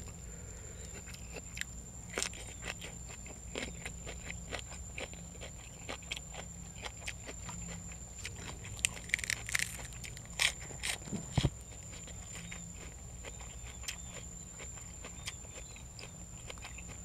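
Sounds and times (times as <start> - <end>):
person chewing and crunching food: 0.0 - 17.0.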